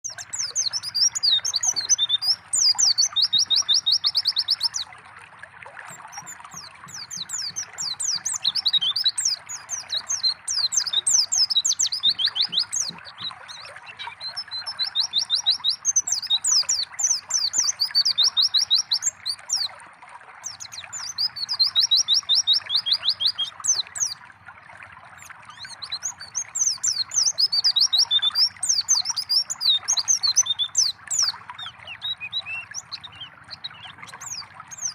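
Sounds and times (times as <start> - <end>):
bird chattering song: 0.0 - 4.8, 5.9 - 19.7, 20.5 - 24.2, 25.5 - 34.9
running water trickling: 0.0 - 34.9.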